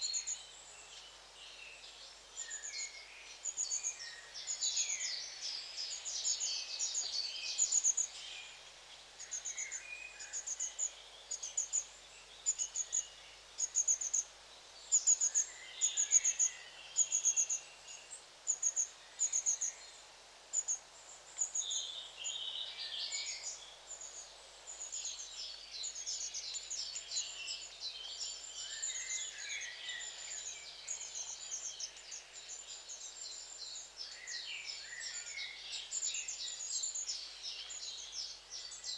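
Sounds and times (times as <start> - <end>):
small birds twittering: 0.0 - 38.9.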